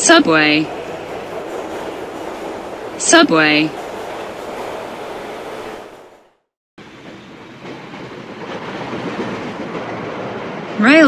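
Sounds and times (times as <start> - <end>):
metro train rumbling on track: 0.0 - 11.0.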